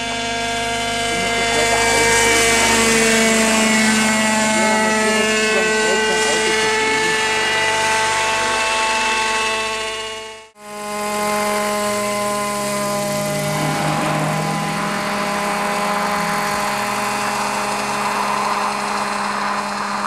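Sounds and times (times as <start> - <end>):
model helicopter engine and rotor: 0.0 - 20.0.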